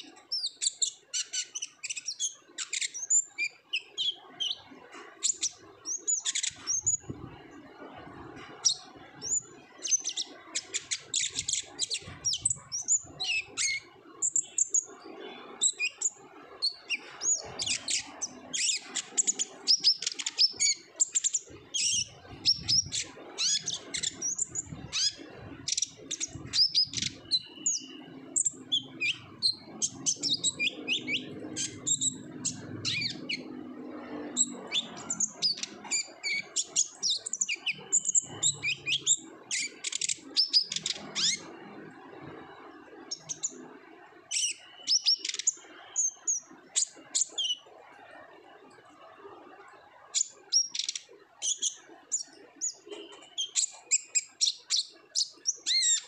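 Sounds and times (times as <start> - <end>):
bird chirping and trilling: 0.0 - 47.7, 50.1 - 56.0.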